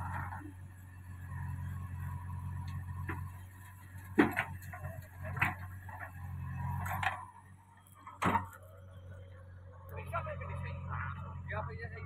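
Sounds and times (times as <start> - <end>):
diesel engine hum: 0.0 - 12.0.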